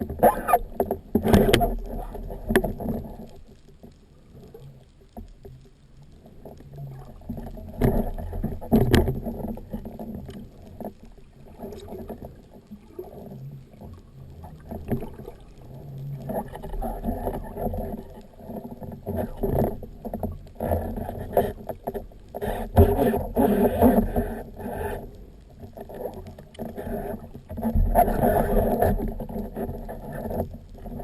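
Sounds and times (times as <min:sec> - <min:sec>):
water churning and sloshing: 0:00.0 - 0:31.0.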